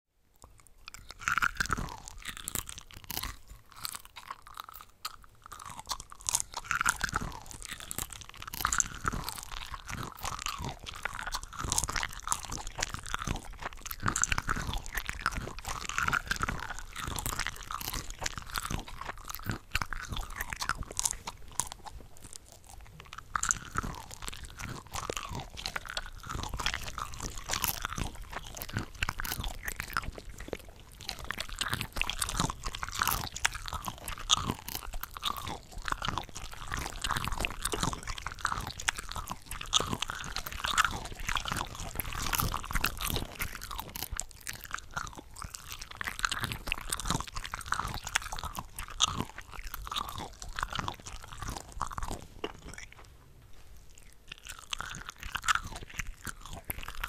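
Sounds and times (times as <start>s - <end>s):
crunchy chewing and biting: 0.3s - 57.0s.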